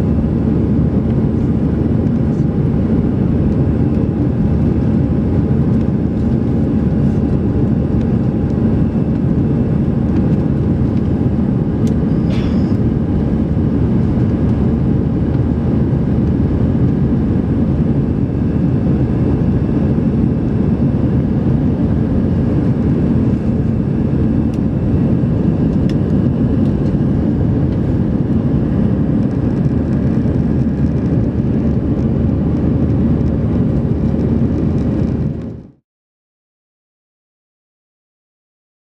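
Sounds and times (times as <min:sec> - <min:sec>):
faint tonal hum: 0:00.0 - 0:34.5
jet engine cabin rumble: 0:00.0 - 0:35.8.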